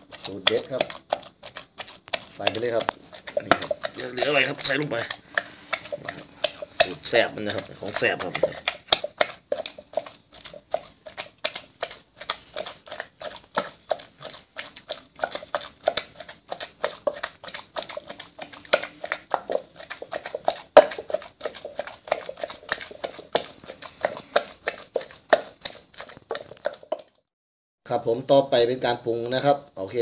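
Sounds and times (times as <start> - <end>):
pestle pounding in clay mortar: 0.0 - 27.2.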